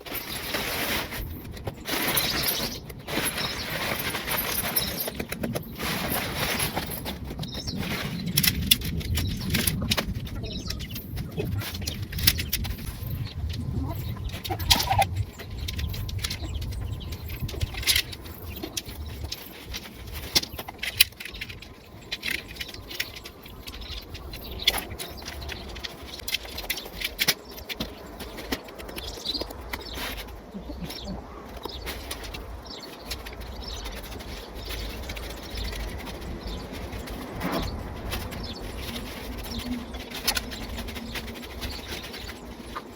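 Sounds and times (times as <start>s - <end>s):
fabric rustling: 0.0s - 42.9s
tent poles clinking: 0.0s - 42.9s.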